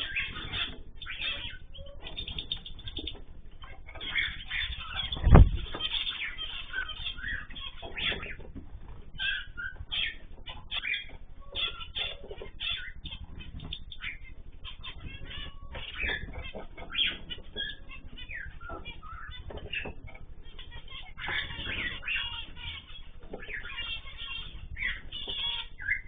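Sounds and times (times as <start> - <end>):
cage birds chirping: 0.0 - 26.0.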